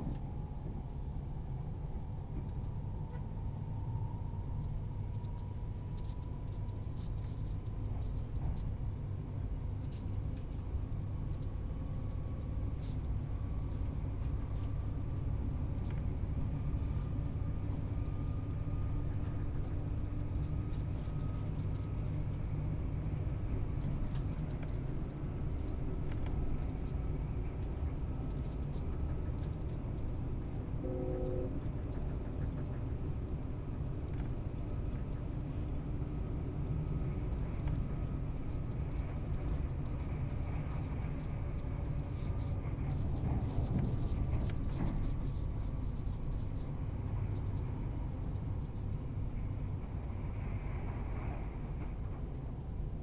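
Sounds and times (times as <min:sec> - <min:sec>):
train running inside carriage: 0:00.0 - 0:53.0.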